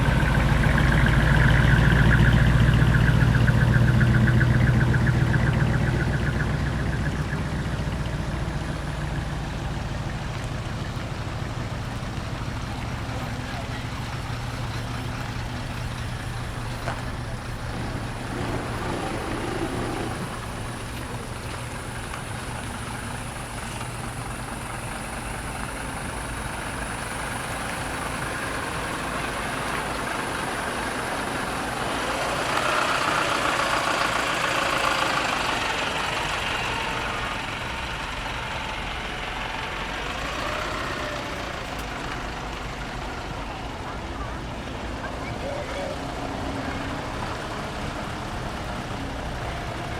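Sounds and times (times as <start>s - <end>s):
truck engines idling: 0.0s - 49.9s
truck passing: 0.0s - 49.9s.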